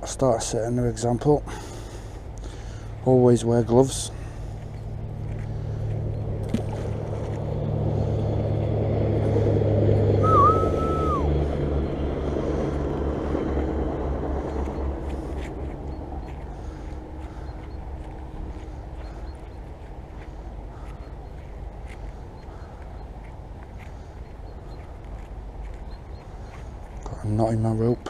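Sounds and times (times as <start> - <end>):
engine passing by: 2.2 - 27.8.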